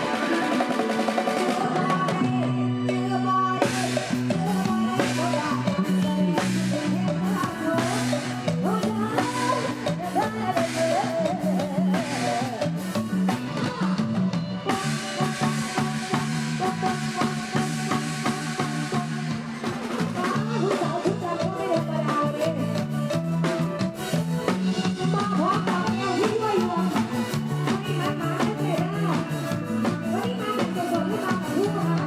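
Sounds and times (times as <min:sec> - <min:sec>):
bass line: 0:00.0 - 0:32.0
drum kit beat: 0:00.0 - 0:32.0
live band music: 0:00.0 - 0:32.0.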